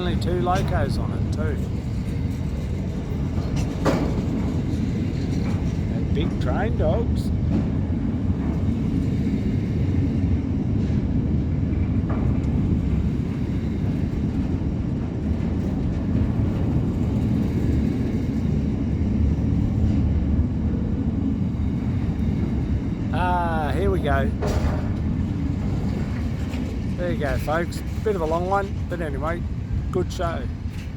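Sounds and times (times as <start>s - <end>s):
freight wagons rumbling on rails: 0.0s - 30.9s.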